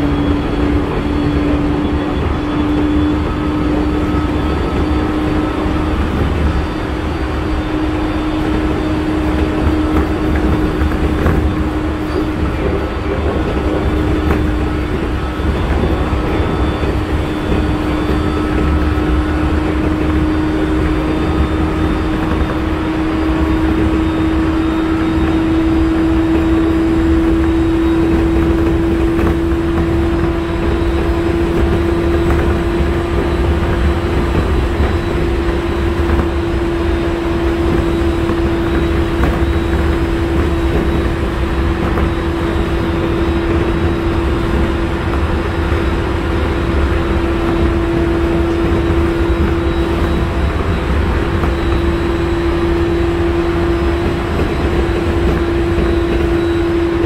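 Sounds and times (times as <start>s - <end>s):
electric train motor whine: 0.0s - 57.0s
wheels rumbling on rail: 0.0s - 57.0s.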